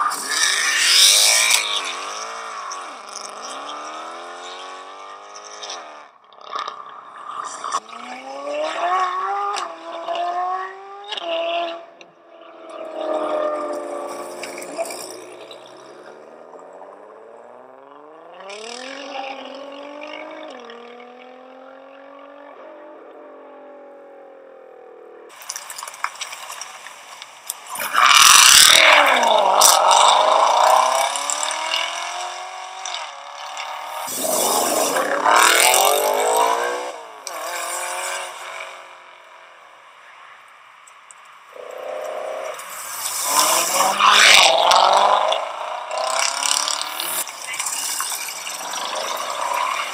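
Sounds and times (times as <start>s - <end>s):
car engines accelerating hard: 0.0s - 49.9s.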